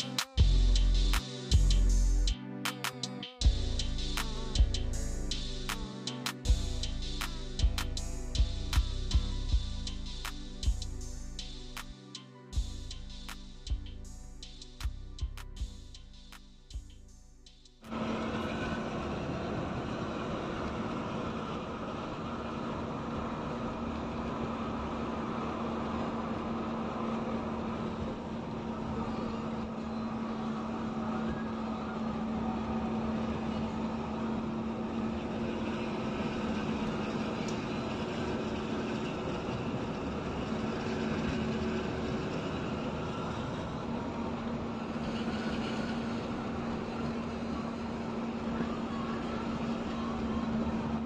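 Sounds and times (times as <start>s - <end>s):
vehicle engine and road noise: 3.4s - 11.9s, 12.6s - 51.0s.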